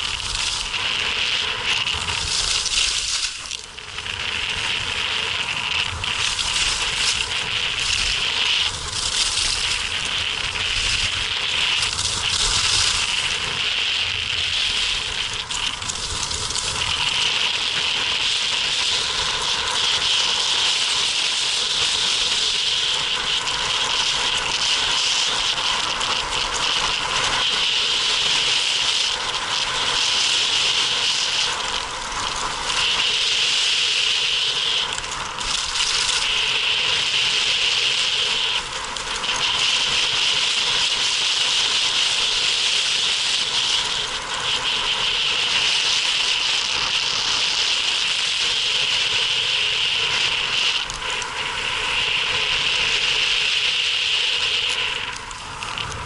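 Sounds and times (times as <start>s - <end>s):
skis scraping on snow: 0.0s - 56.0s.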